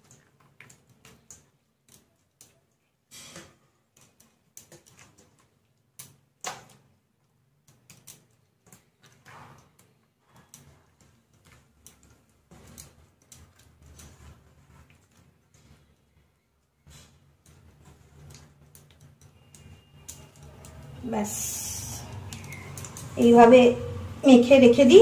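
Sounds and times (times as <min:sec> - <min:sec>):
wet smearing of paste: 0:00.0 - 0:23.2.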